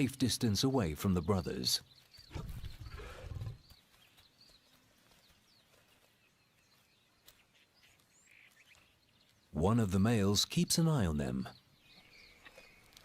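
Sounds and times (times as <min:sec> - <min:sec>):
faint bird chirps: 0:01.2 - 0:09.6, 0:11.0 - 0:13.0.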